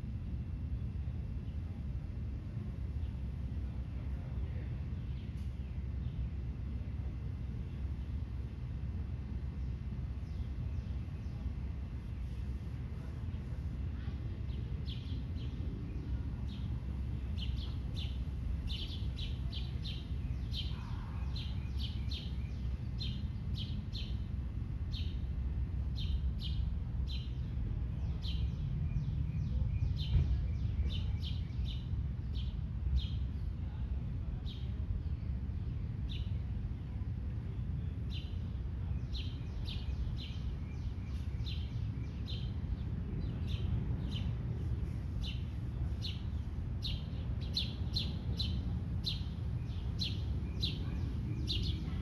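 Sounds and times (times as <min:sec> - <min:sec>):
steady low rumble: 0:00.0 - 0:52.0.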